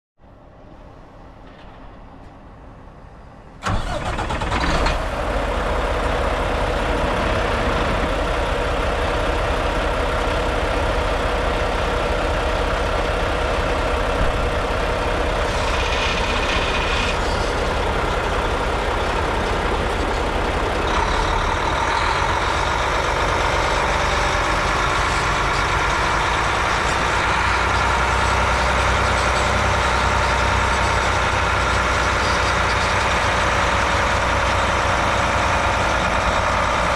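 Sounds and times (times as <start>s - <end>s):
diesel truck engine starting and idling: 0.7s - 36.9s.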